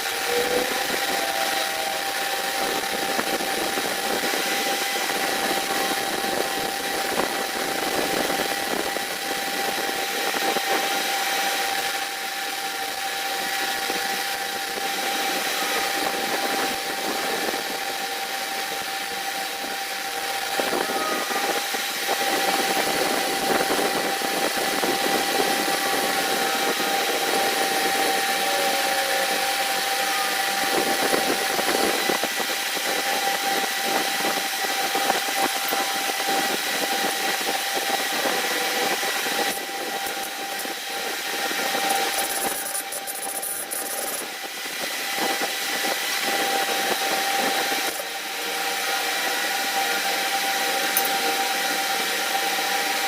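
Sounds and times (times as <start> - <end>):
motor whining: 0.0 - 53.0.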